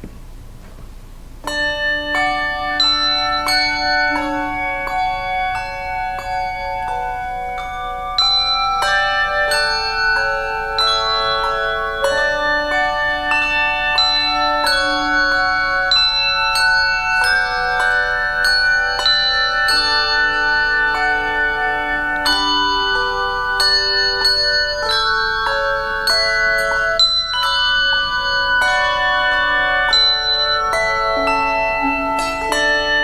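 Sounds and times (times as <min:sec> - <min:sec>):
handbell choir playing: 0:01.5 - 0:33.0.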